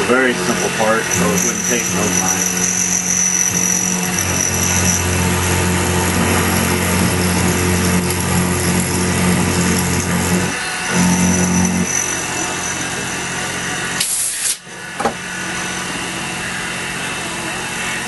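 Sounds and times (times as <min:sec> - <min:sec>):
milling machine motor humming: 0:00.0 - 0:18.0.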